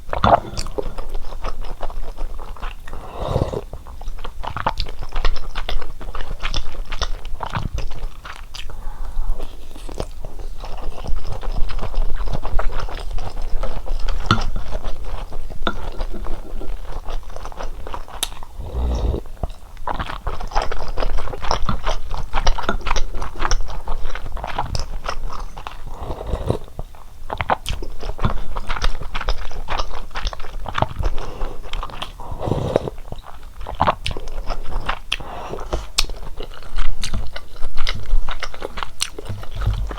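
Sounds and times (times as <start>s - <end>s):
chewing and biting crunches: 0.0s - 8.8s, 9.4s - 39.9s.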